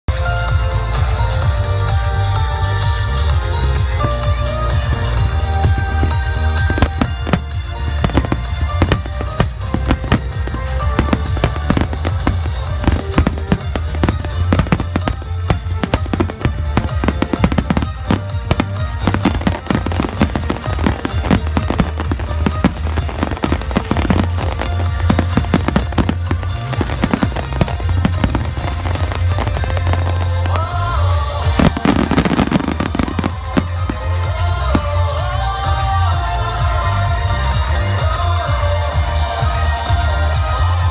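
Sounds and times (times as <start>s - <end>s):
music playing: 0.0s - 40.9s
fireworks bursting and crackling: 3.6s - 36.8s.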